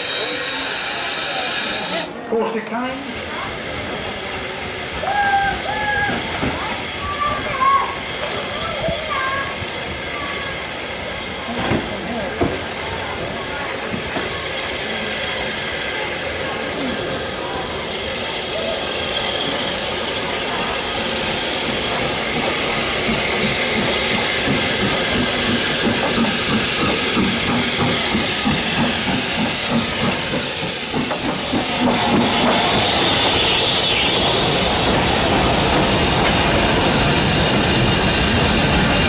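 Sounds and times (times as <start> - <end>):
steam hissing: 0.0 - 2.2, 3.0 - 39.0
steam locomotive passing: 0.0 - 39.0
train wheels clicking over rail joints: 3.5 - 39.0.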